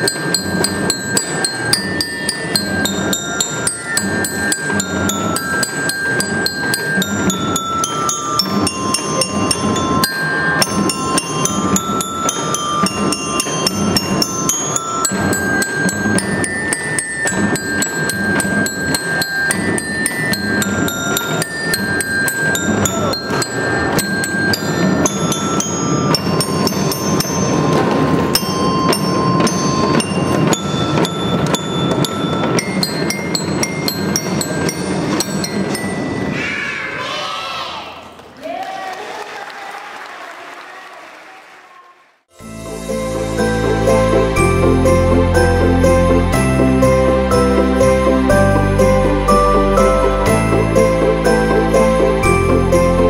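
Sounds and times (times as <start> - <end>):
bell-like struck melody: 0.0 - 36.3, 42.4 - 53.0.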